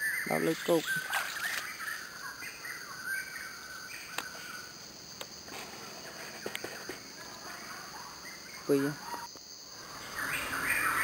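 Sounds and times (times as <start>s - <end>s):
bird chirps: 0.0s - 4.8s, 6.2s - 11.0s
insects buzzing: 0.0s - 11.0s.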